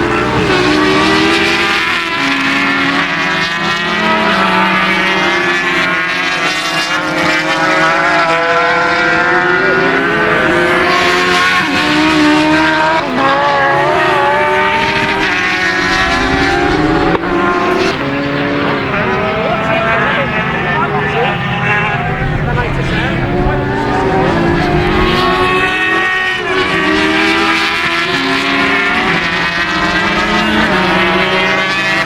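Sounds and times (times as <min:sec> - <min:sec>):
racing motorcycle engines revving: 0:00.0 - 0:32.0.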